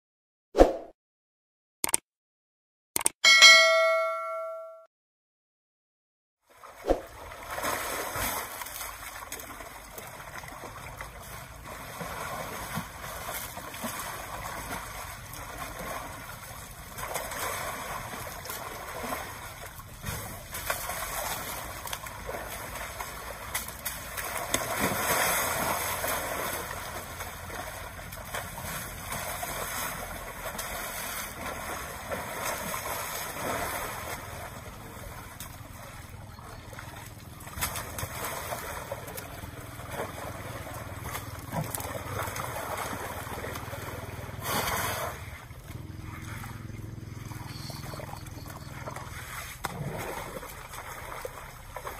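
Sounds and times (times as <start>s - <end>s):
mud sloshing and splattering: 6.5s - 51.9s.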